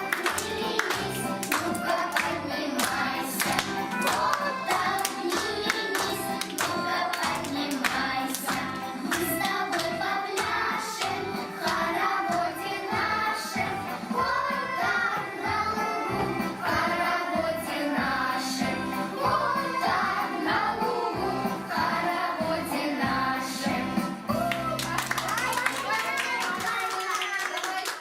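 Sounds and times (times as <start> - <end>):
children singing: 0.0 - 24.0
children's song music: 0.0 - 27.2.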